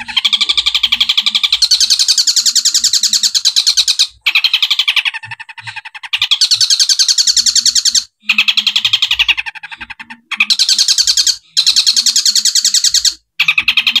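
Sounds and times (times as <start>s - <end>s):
bird chattering song: 0.0s - 14.0s.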